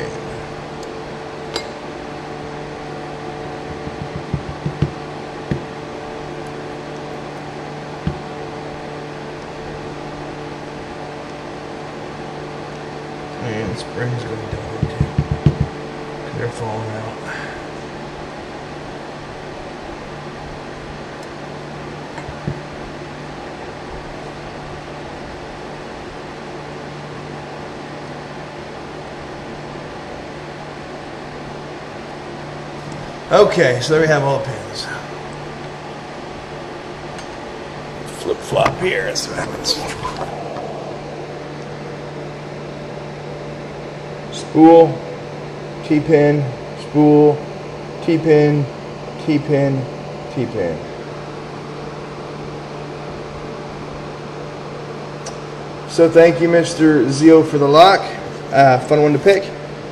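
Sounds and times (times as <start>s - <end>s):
fan-like hiss: 0.0s - 59.9s
steady mechanical hum: 0.0s - 59.9s.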